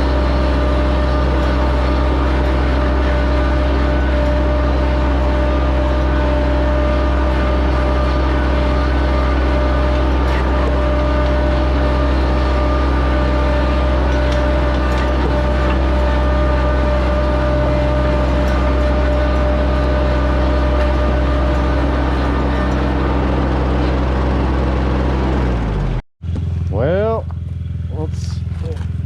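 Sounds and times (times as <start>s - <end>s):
motor humming: 0.0s - 26.7s.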